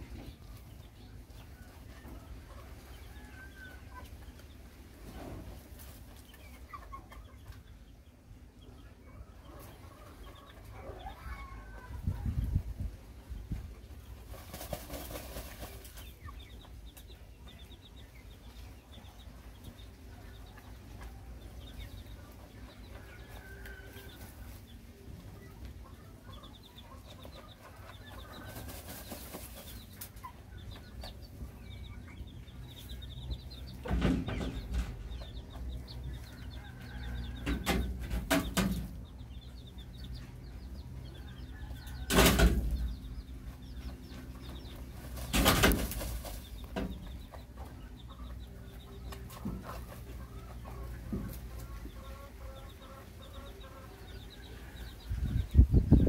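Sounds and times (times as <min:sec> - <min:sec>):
chickens clucking: 0:00.0 - 0:56.0
chicks peeping: 0:00.0 - 0:56.0.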